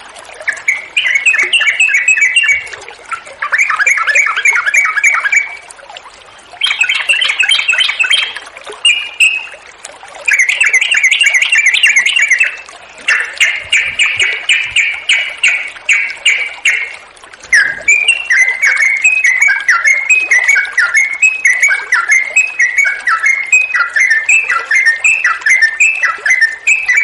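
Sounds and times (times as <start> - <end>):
bird singing warbled phrases: 0.4 - 5.7, 6.5 - 9.6, 10.2 - 27.0.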